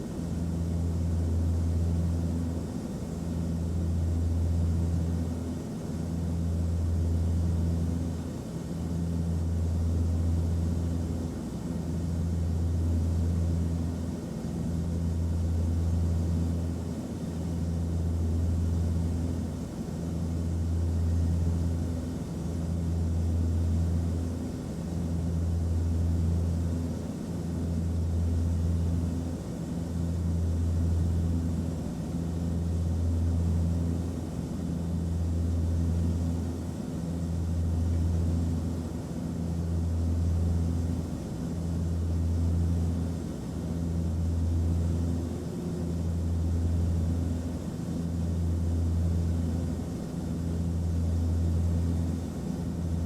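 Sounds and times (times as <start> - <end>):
engine and airflow drone: 0.0 - 53.0.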